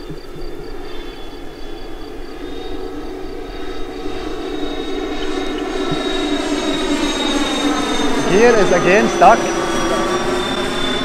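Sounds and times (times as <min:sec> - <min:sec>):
electric ducted fans whining: 0:00.0 - 0:11.0.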